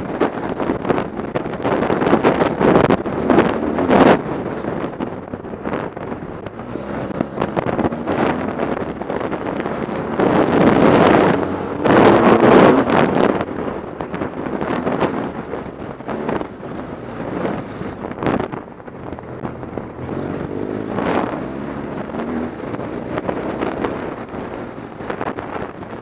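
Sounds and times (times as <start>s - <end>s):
motorcycle engine running: 0.0s - 26.0s
wind buffeting on microphone: 0.0s - 26.0s.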